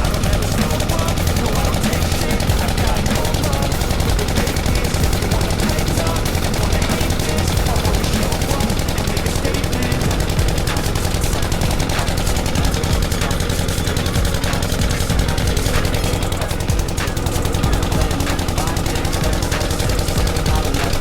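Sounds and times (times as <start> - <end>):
motorcycle engine exhaust pulsing: 0.0 - 21.0.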